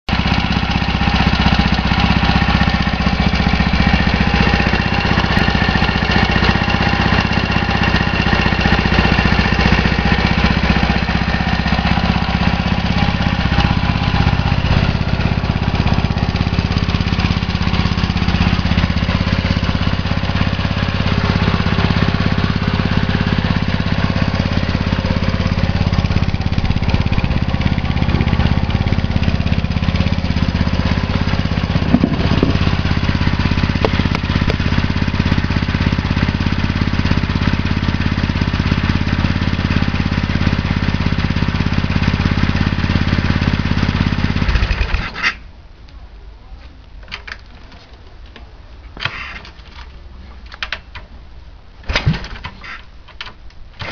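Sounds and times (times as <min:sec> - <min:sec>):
motorcycle engine idling: 0:00.1 - 0:45.1.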